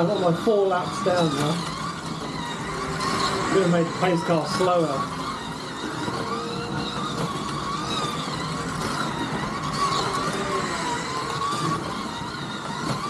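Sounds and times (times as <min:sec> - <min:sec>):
slot car motors whining: 0:00.0 - 0:13.0.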